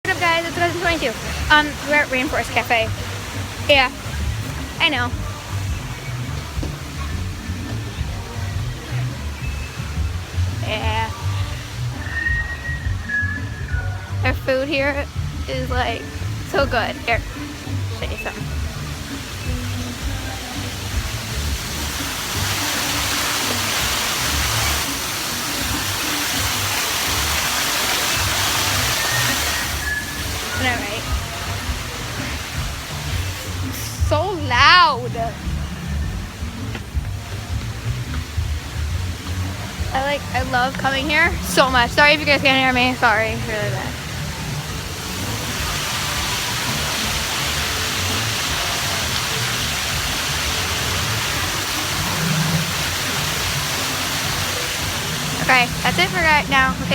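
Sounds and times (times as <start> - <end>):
artificial waterfall rushing: 0.0 - 56.9
background music: 0.0 - 56.9.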